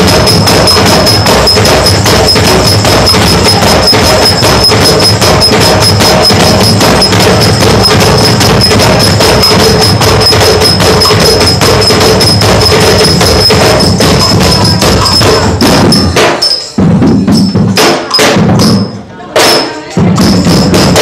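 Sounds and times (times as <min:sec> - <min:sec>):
large drum beating: 0:00.0 - 0:21.0.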